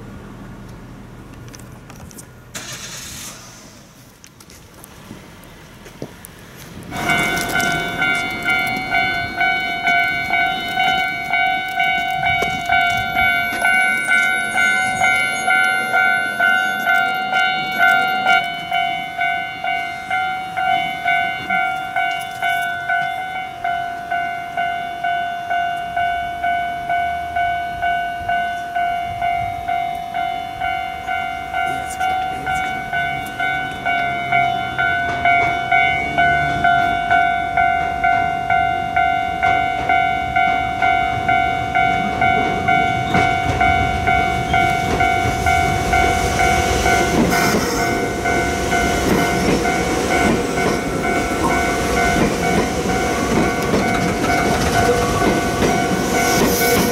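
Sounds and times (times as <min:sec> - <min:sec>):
level crossing electronic bell: 0:07.0 - 0:56.9.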